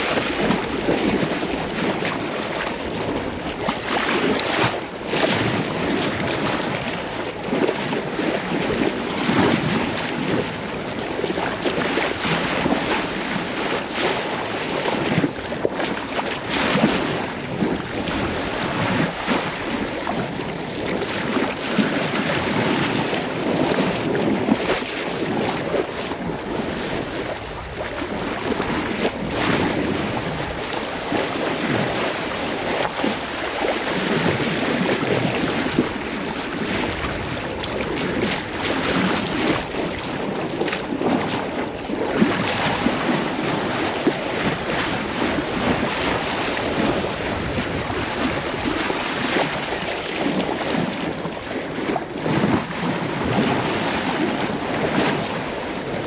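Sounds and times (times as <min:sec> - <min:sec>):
sea rushing past hull: 0:00.0 - 0:56.0
wind buffeting microphone: 0:00.0 - 0:56.0.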